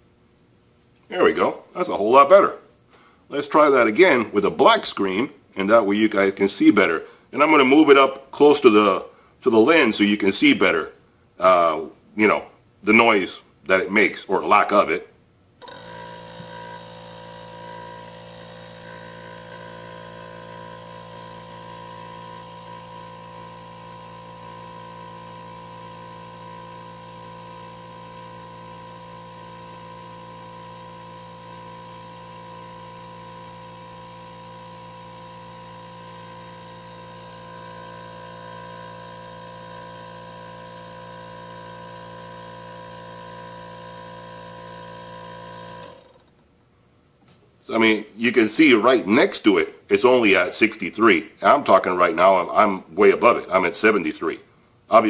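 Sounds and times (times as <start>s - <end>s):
compressor humming: 0.0s - 55.0s.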